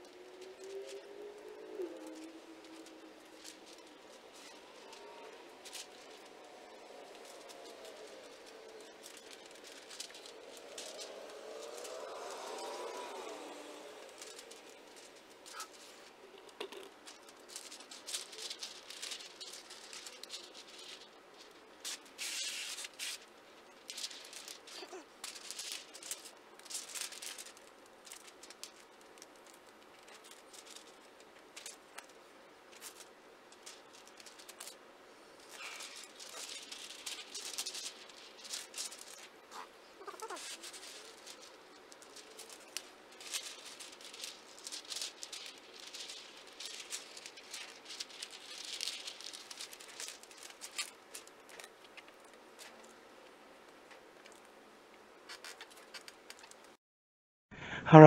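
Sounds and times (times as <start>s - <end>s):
plastic film crinkling: 0.0s - 56.8s.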